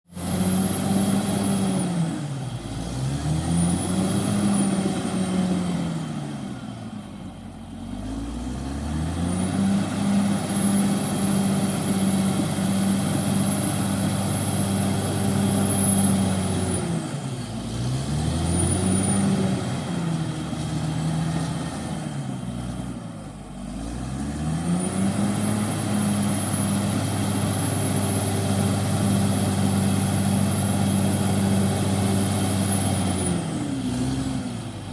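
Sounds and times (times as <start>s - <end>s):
bulldozer diesel engine running: 0.1s - 34.9s.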